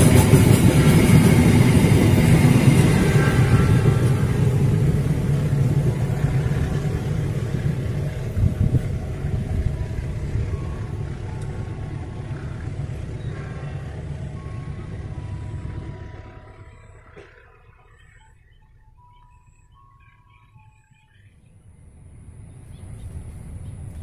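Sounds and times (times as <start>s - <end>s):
train coaches rumbling on rails: 0.0s - 24.0s.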